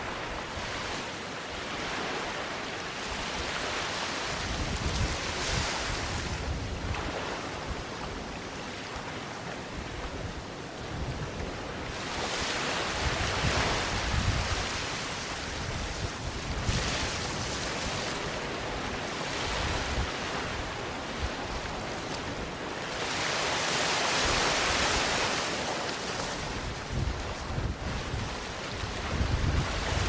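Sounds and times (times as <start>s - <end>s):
waves washing onto beach: 0.0s - 30.0s
wind rumble on microphone: 0.0s - 30.0s.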